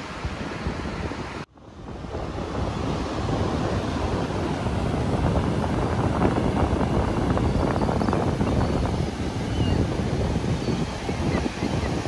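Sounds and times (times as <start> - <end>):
waves washing onto beach: 0.0 - 12.0
wind buffeting microphone: 0.0 - 12.0.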